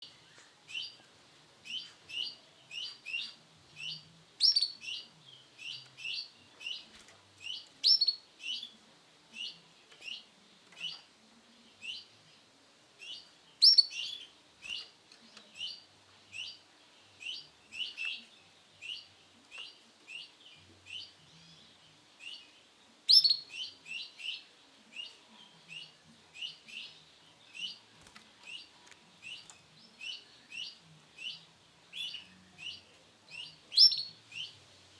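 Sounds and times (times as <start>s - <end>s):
canary chirping: 0.0s - 11.1s, 13.0s - 34.6s.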